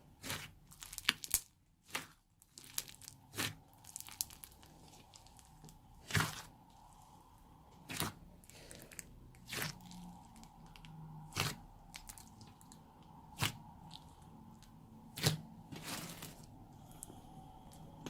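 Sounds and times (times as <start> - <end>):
slime popping and crackling: 0.2 - 6.5, 7.8 - 17.1.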